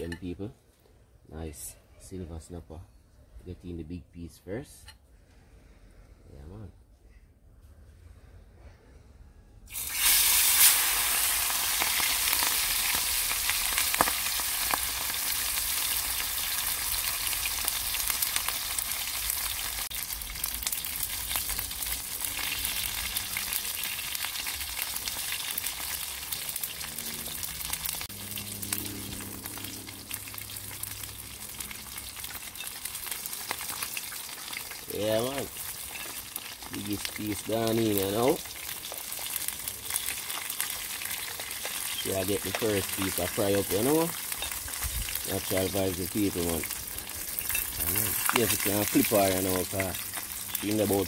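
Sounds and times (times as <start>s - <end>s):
fish sizzling in hot oil: 9.7s - 51.0s.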